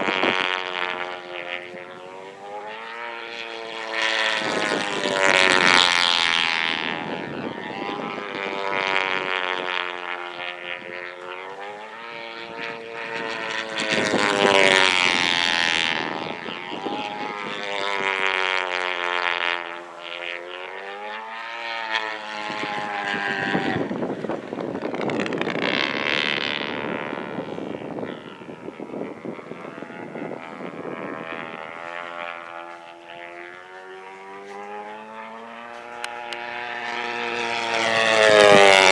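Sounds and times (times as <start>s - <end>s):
model plane engine screaming: 0.0s - 38.9s.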